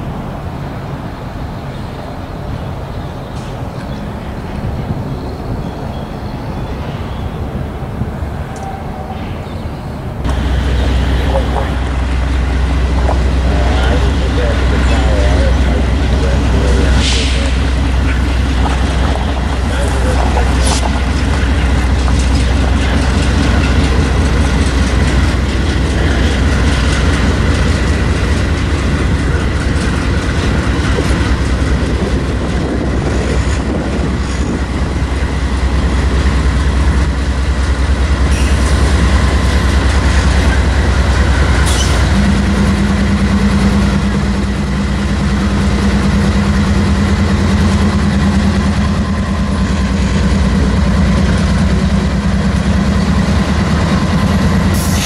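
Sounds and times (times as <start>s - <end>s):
diesel engine rumble: 0.0s - 55.0s
train wheel and rail noise: 0.0s - 55.0s.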